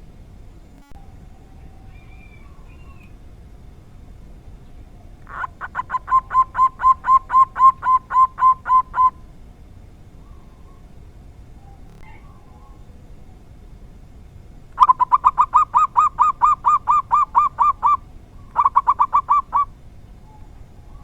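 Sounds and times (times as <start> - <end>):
steady low hiss: 0.0 - 21.0
dove cooing: 0.8 - 21.0.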